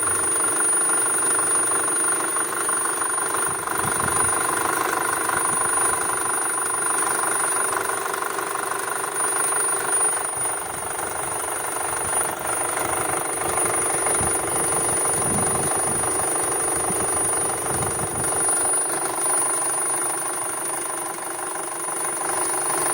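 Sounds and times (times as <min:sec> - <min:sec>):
car engine running: 0:00.0 - 0:22.9.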